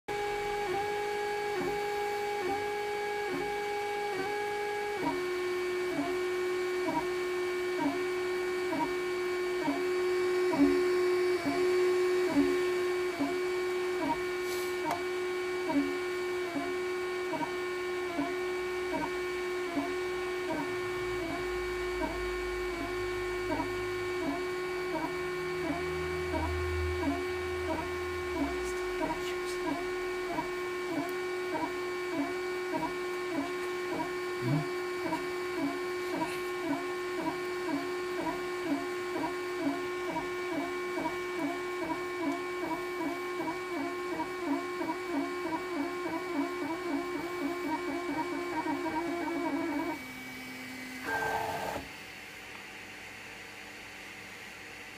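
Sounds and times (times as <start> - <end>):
deeper motor tones: 5.8 - 50.0
stepper motors whining: 5.8 - 50.2, 50.8 - 51.9.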